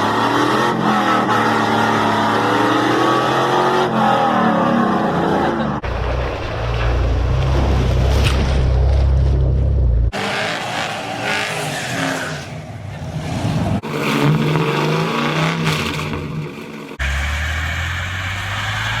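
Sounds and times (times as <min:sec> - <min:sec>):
vehicle engine driving: 0:00.0 - 0:19.0.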